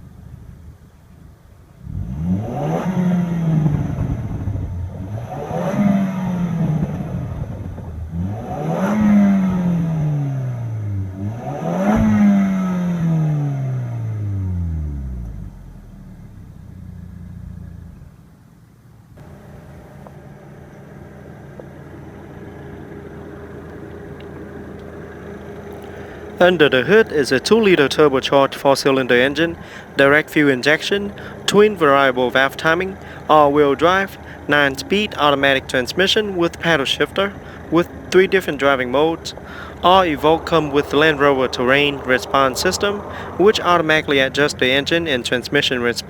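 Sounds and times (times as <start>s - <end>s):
car engine idling: 0.0s - 46.0s
car engine revving: 1.8s - 18.4s, 19.2s - 46.0s.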